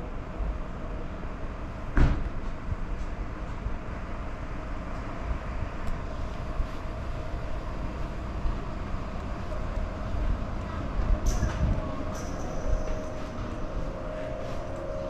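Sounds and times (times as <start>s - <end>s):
low rumble of vehicles: 0.0s - 15.0s.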